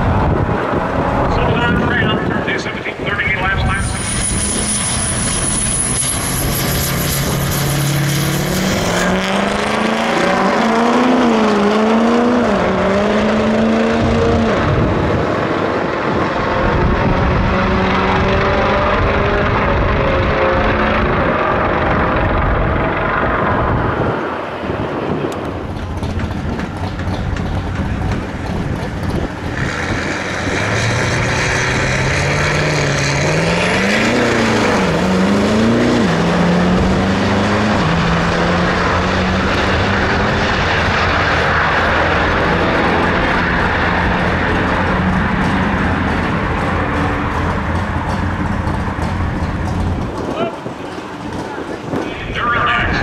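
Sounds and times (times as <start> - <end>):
pickup truck engines at full throttle: 0.0 - 53.0.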